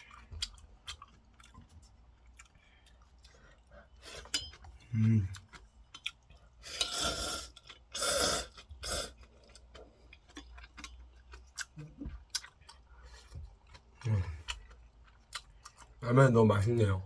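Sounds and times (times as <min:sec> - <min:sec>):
chewing with mouth clicks: 0:00.0 - 0:16.0
noisy eating of noodles: 0:00.0 - 0:16.1.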